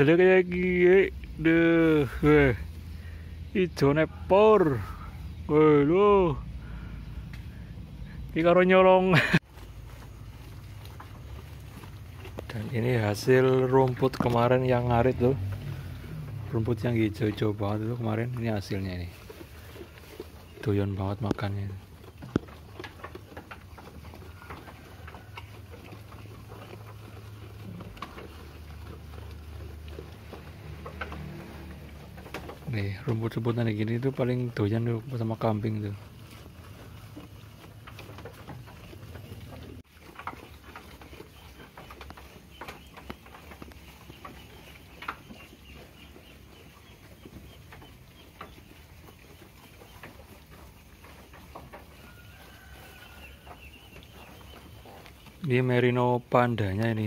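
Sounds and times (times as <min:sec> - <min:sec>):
sheep chewing grass: 0:00.0 - 0:57.0.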